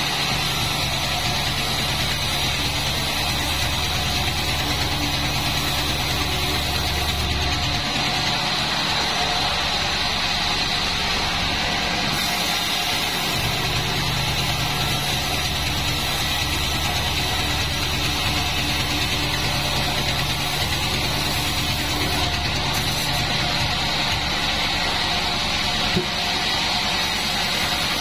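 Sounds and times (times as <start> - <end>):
band saw mill running: 0.0 - 28.0.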